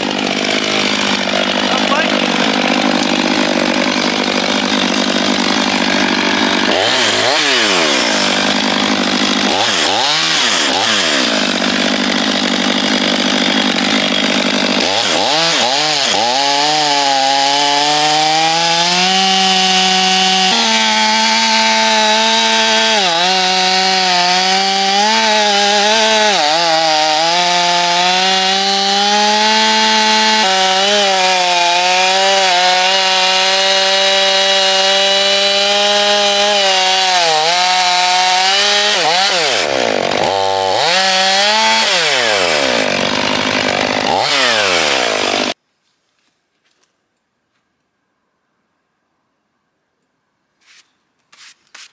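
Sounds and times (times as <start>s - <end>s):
chainsaw cutting log: 0.0s - 45.6s, 50.6s - 51.9s.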